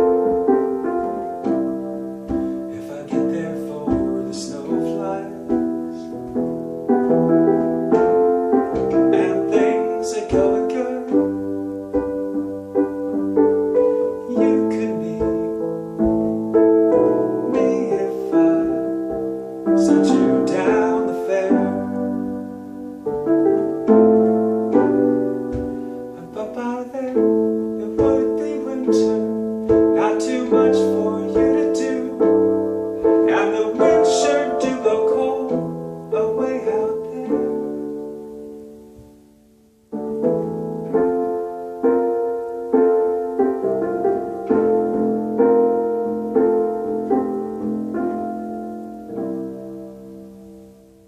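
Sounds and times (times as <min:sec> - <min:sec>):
piano playing slow chords: 0:00.0 - 0:51.0.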